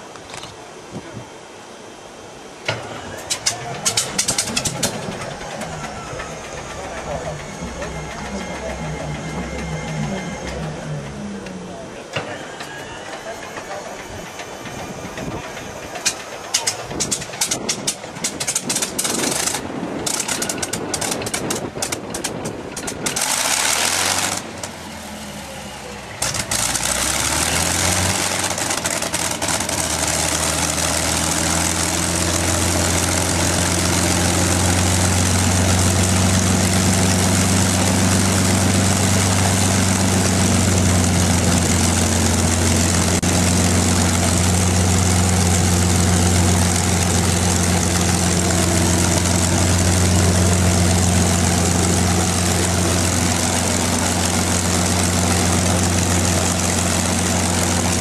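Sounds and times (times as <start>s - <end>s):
propeller aircraft engine idling: 2.7s - 58.0s.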